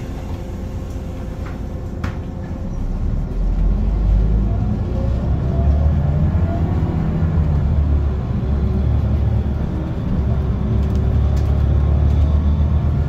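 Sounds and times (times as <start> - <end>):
bus engine rumble from inside: 0.0 - 13.0
road noise: 0.0 - 13.0.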